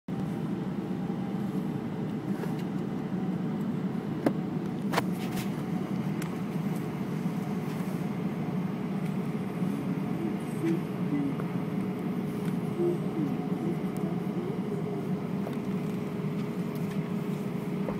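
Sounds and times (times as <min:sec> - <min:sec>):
airplane cabin rumble: 0:00.1 - 0:17.9.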